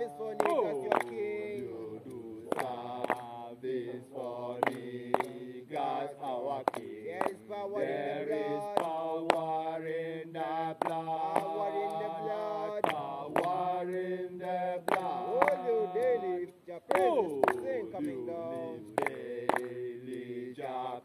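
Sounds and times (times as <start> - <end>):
voices chanting a hymn: 0.0 - 21.0.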